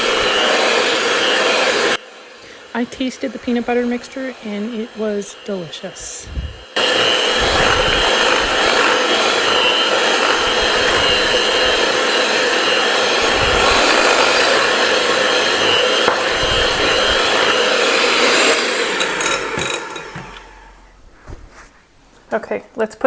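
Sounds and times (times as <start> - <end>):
electric mixer running: 0.0 - 21.0.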